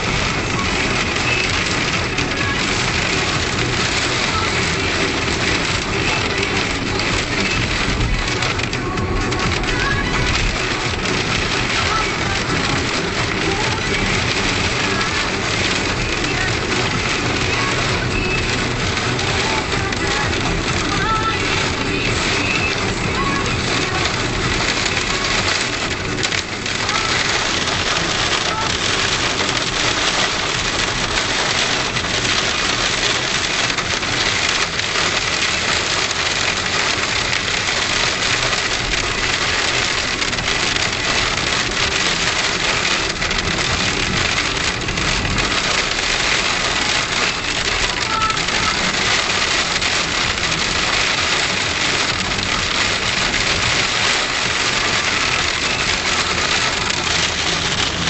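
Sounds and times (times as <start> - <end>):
hail clattering on a surface: 0.0 - 58.0.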